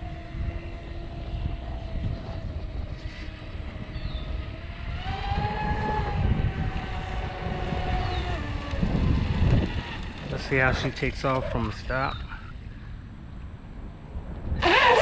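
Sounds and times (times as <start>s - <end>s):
electric motor whine: 0.0s - 11.7s, 14.6s - 15.0s
wind rumble on microphone: 0.0s - 15.0s.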